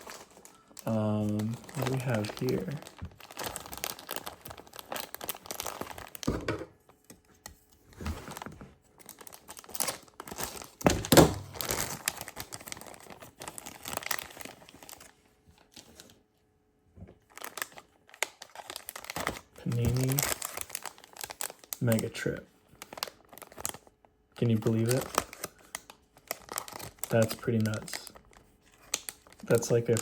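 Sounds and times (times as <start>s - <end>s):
packaging crinkling and rustling: 0.0s - 16.2s, 17.0s - 30.0s.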